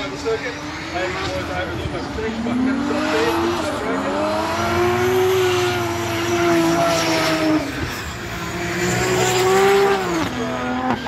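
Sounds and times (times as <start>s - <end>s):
car engines at high revs: 0.0s - 11.0s.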